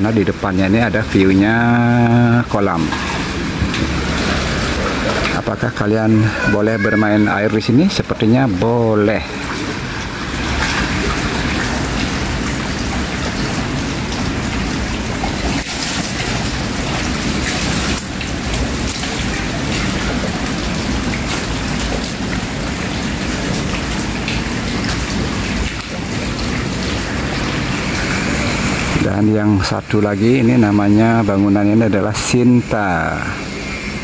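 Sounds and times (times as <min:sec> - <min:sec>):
falling water splatter: 0:00.0 - 0:34.0.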